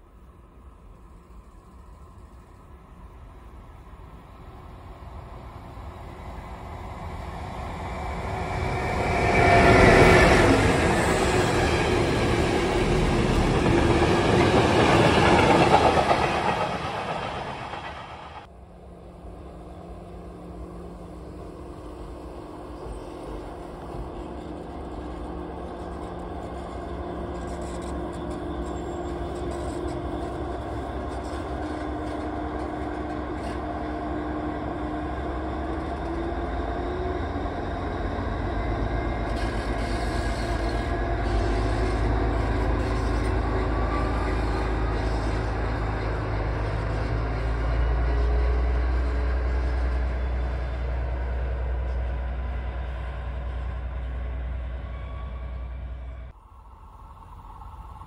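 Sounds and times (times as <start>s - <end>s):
diesel locomotive engine humming: 0.0s - 58.0s
electric train passing: 0.0s - 58.0s.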